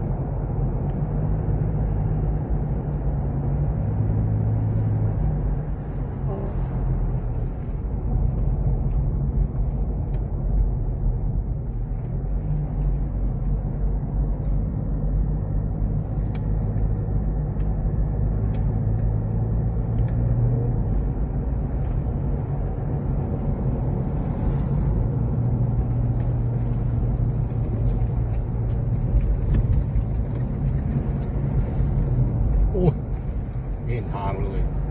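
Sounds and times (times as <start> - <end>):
car engine and tyre drone: 0.0 - 34.9.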